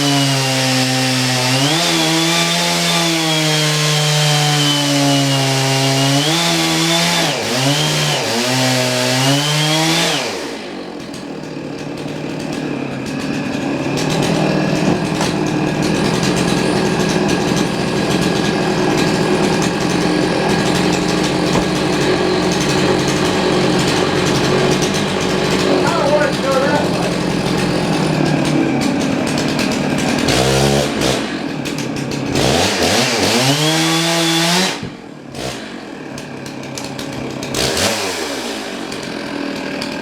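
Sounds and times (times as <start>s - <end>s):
saw blade cutting log: 0.0s - 40.0s
sawmill gas engine running: 0.0s - 40.0s.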